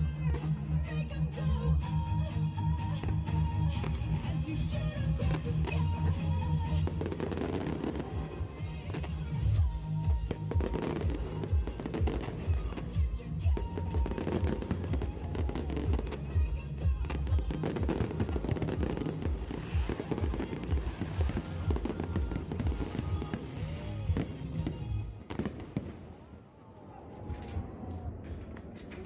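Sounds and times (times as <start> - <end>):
music playing: 0.0 - 25.5
fireworks bangs and crackles: 2.9 - 26.5.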